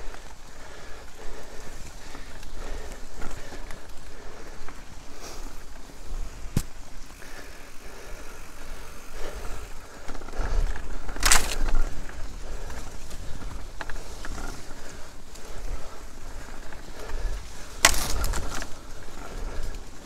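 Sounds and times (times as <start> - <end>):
bike tyres on rough track: 0.0 - 20.0.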